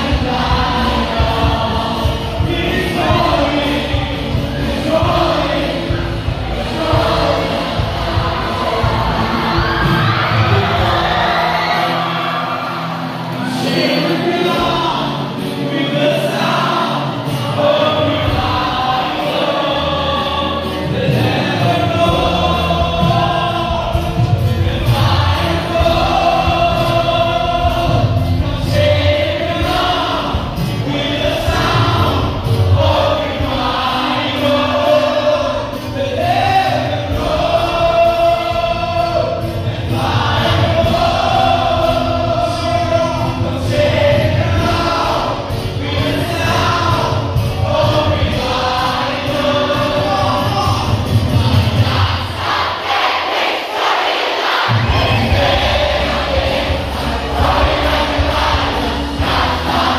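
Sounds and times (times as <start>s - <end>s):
group singing gospel song: 0.0s - 59.9s
instrumental accompaniment: 0.0s - 59.9s.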